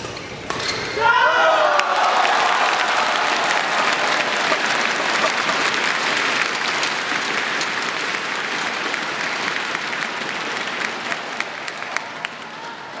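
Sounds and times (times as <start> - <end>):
spectators applauding: 1.6 - 13.0.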